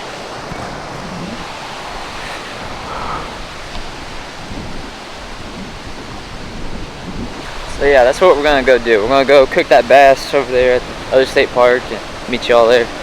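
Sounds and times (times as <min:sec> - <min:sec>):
lake waves washing: 0:00.0 - 0:13.0
wind buffeting microphone: 0:00.0 - 0:13.0.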